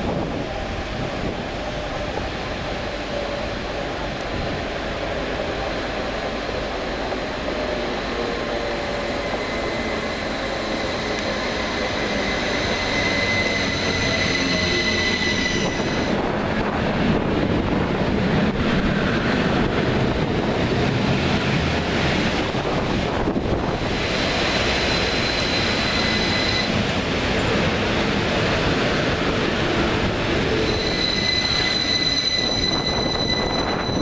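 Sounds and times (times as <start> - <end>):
high train whine: 0.0 - 34.0
train wheels rumbling on rails: 0.0 - 34.0.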